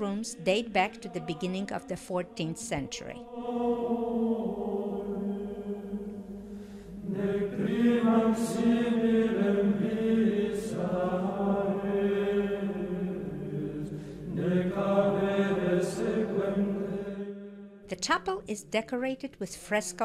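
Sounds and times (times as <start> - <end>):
slow vocal chant: 0.9 - 17.9.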